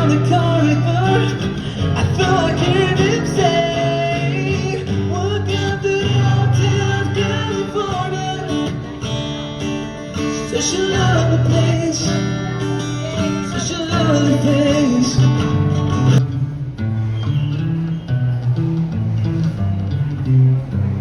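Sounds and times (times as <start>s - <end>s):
guitar plucked and strummed: 0.0s - 21.0s.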